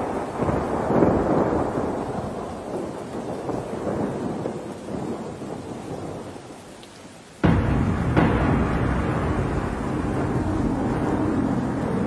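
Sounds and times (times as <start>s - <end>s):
thunder rumbling: 0.0s - 6.3s, 7.4s - 12.0s
rain: 0.0s - 12.0s.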